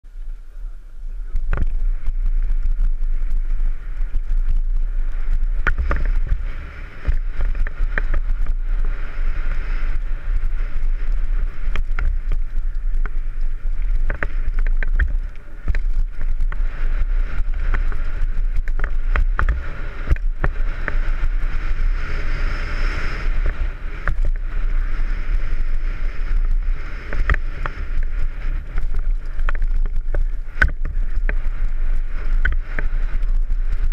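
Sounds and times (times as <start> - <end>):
wind noise on microphone: 0.0 - 33.9
bike knocking and rattling: 1.2 - 33.9.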